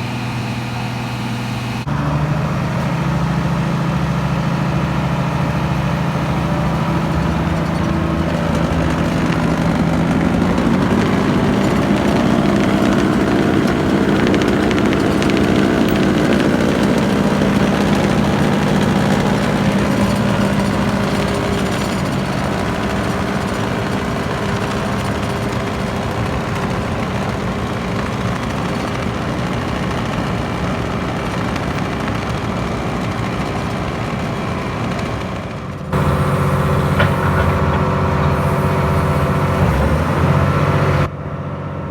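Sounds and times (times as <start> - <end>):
diesel engine running: 0.0 - 41.9
dense rattling clatter: 2.8 - 41.1.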